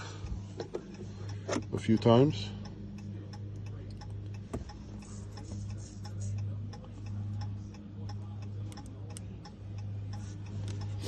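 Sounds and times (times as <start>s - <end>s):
steady low hum: 0.0s - 11.0s
light rapid ticking: 0.3s - 11.0s.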